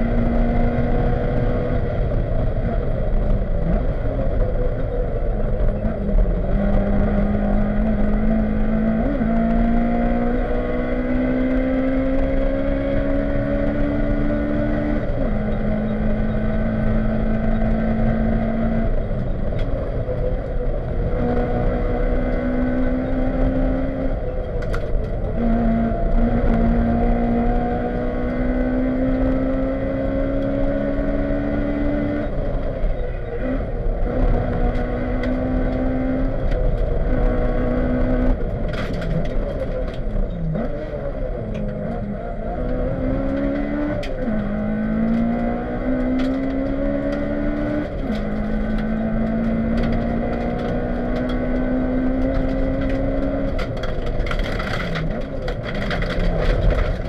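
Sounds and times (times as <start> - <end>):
rally car engine accelerating: 0.0 - 57.0
road and tyre noise: 0.0 - 57.0.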